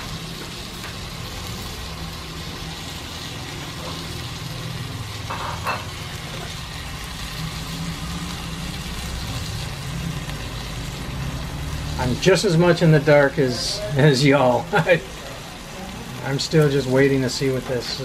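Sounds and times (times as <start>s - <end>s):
food sizzling in a pot: 0.0s - 18.0s
gas burner hum: 0.0s - 18.0s.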